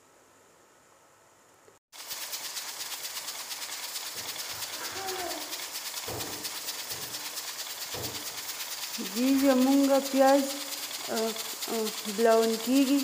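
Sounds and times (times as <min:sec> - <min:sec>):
onions sizzling in hot oil: 0:02.0 - 0:13.0.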